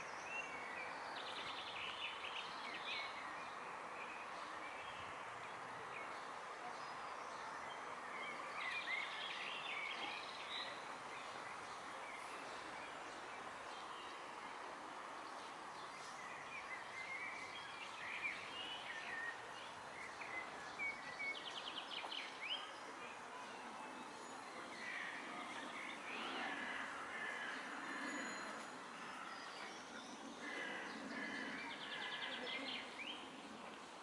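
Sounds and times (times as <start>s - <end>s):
outdoor background noise: 0.0s - 34.0s
songbirds chirping: 0.0s - 34.0s.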